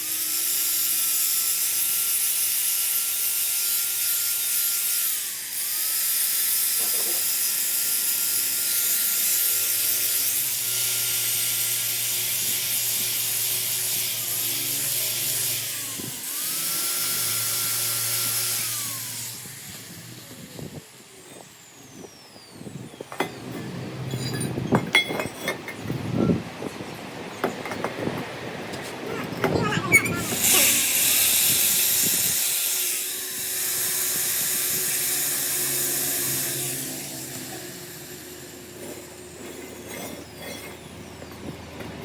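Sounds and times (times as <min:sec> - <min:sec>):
power tool running with hiss: 0:00.0 - 0:23.7, 0:29.5 - 0:41.6.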